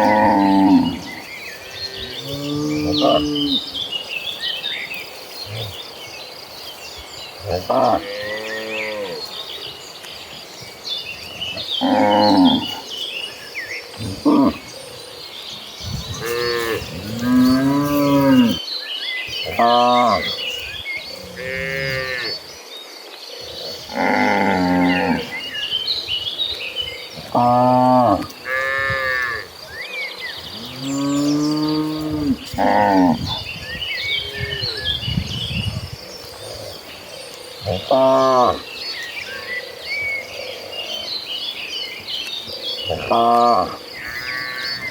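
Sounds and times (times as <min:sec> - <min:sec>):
faint birds chirping: 0:00.0 - 0:44.9.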